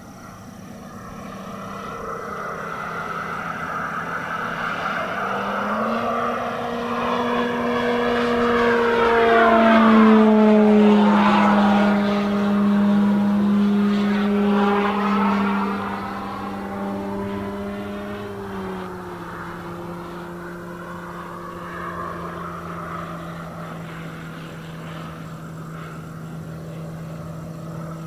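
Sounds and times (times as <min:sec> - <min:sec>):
model plane electric motor whirr: 0:00.0 - 0:05.9, 0:06.6 - 0:28.0
simulated radial engine drone: 0:00.0 - 0:28.0.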